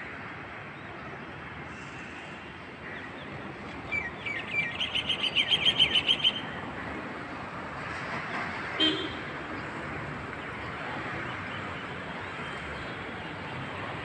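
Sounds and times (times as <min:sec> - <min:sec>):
city background noise: 0:00.0 - 0:14.0.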